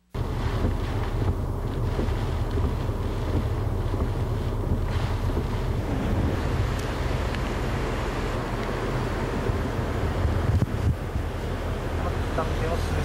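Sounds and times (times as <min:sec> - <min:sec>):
steady rushing noise: 0:00.0 - 0:13.0
strong wind buffeting microphone: 0:00.2 - 0:13.0.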